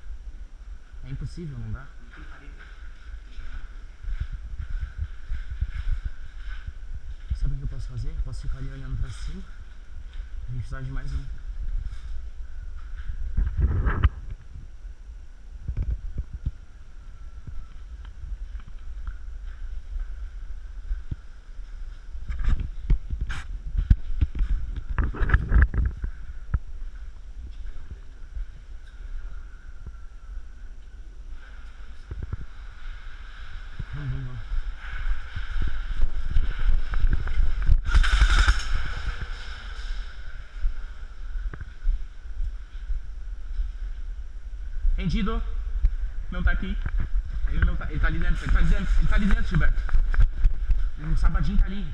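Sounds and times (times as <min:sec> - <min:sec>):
wind on microphone: 0:00.0 - 0:51.9.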